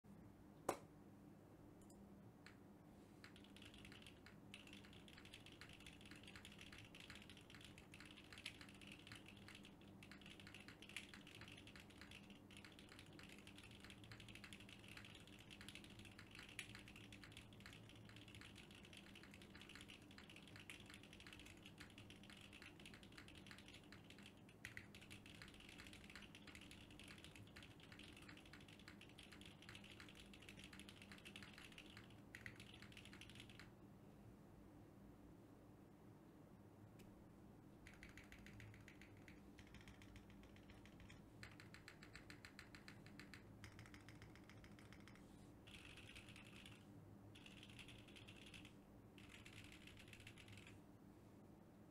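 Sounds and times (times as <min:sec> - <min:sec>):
mechanical keyboard typing: 0:03.2 - 0:33.8, 0:37.8 - 0:50.8.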